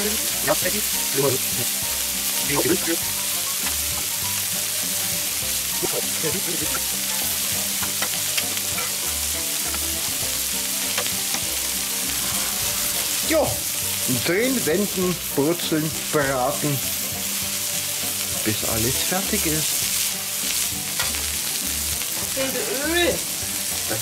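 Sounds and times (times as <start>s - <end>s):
food sizzling on a hot plate: 0.0s - 24.0s.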